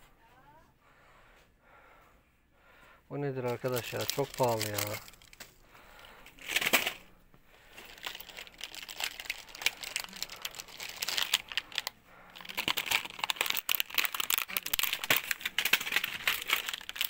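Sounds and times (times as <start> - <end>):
plastic rustling and crinkling: 3.3 - 17.0.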